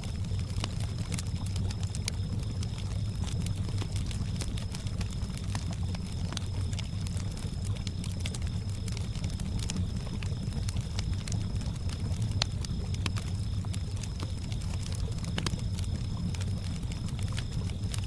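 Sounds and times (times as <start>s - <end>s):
campfire crackling and popping: 0.0s - 18.0s
crickets chirping: 0.0s - 18.0s.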